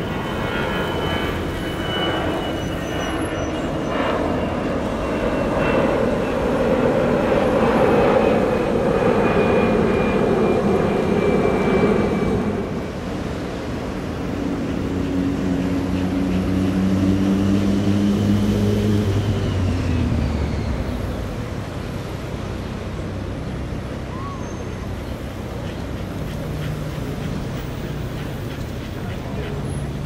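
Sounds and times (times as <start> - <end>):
propeller plane droning overhead: 0.0 - 30.0
road traffic noise: 0.0 - 30.0.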